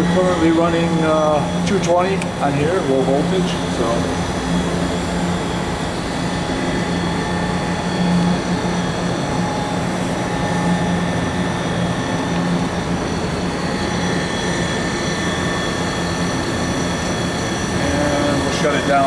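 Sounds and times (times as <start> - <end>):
surface grinder humming and whining: 0.0 - 19.0.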